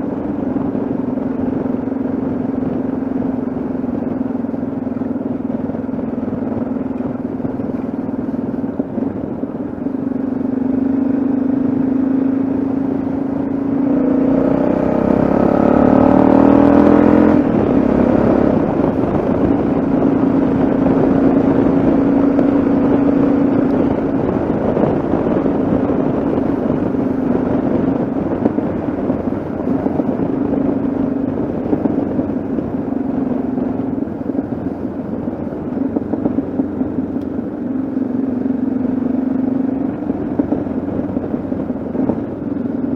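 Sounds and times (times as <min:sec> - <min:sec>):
motorcycle engine running: 0:00.0 - 0:42.9
road and wind rush: 0:00.0 - 0:42.9.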